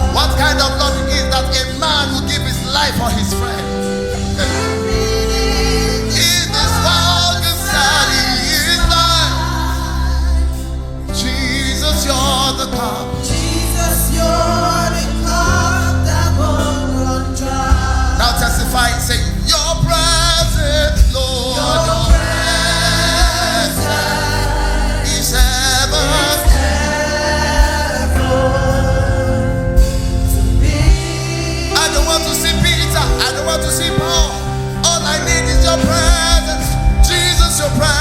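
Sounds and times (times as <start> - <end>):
band with heavy bass: 0.0 - 38.0
choir singing: 0.0 - 38.0
singers with vibrato: 0.0 - 38.0.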